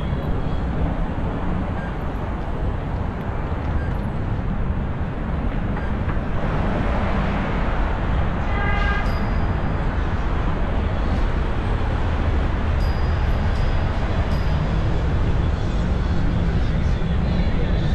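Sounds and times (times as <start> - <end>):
road noise: 0.0 - 17.9.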